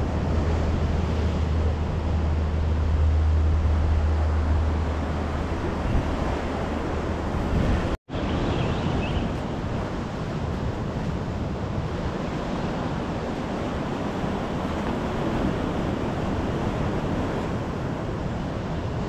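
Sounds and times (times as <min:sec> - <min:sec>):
ocean surf against rocks: 0:00.0 - 0:19.0
wind buffeting microphone: 0:00.0 - 0:19.0.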